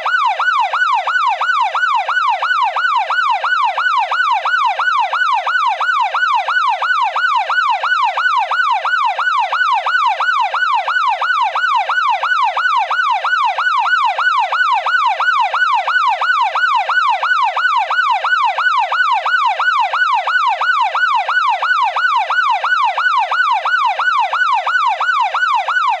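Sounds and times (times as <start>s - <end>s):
police siren yelping: 0.0s - 26.0s.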